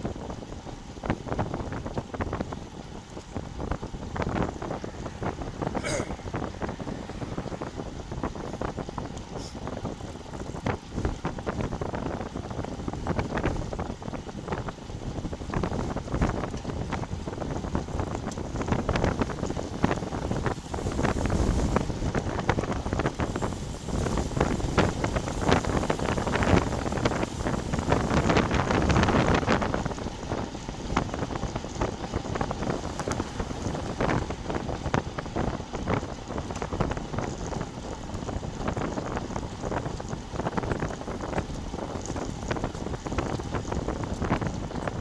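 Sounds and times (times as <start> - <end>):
road noise: 0.0 - 45.0
wind buffeting microphone: 0.0 - 45.0.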